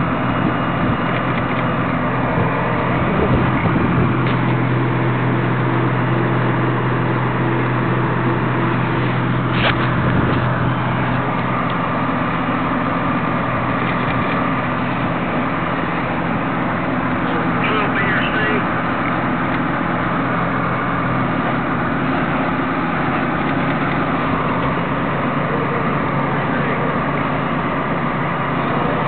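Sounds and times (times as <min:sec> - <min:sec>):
fire engine running: 0:00.0 - 0:29.0.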